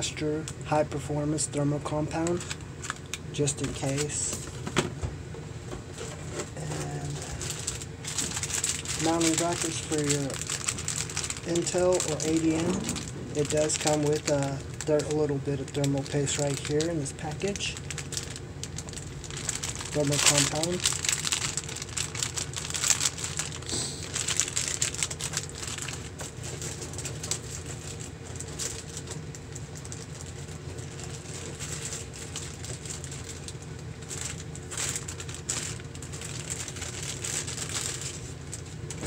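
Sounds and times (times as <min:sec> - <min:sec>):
steady low hum: 0:00.0 - 0:39.0
plastic bags crinkling: 0:01.8 - 0:04.7, 0:05.9 - 0:39.0.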